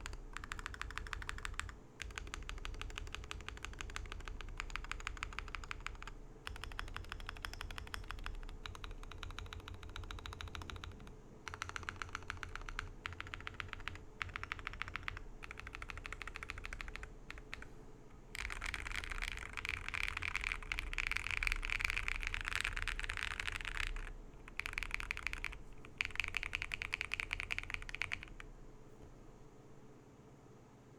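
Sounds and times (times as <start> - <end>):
typing on mechanical keyboard: 0.0 - 17.7, 18.3 - 28.5.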